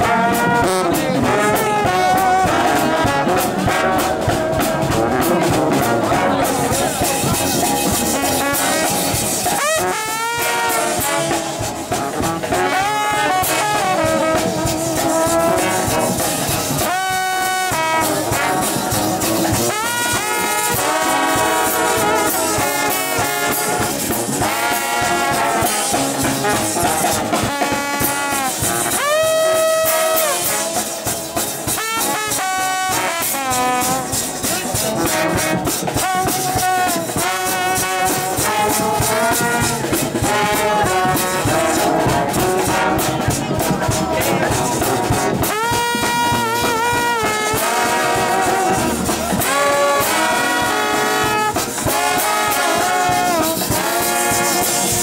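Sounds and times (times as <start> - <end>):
steady drum beat: 0.0 - 55.0
trombones sliding in pitch: 0.0 - 55.0
trumpets: 0.0 - 55.0.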